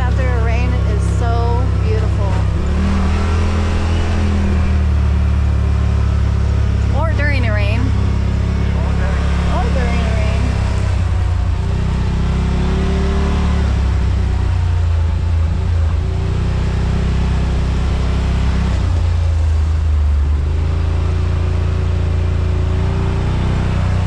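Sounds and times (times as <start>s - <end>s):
utility vehicle engine drone: 0.0s - 24.0s.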